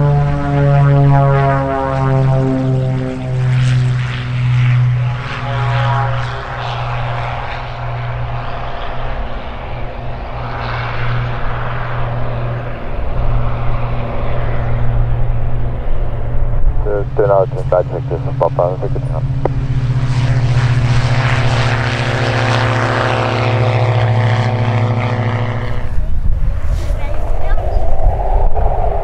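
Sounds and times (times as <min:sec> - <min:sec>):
airplane engine drone: 0:00.0 - 0:29.0.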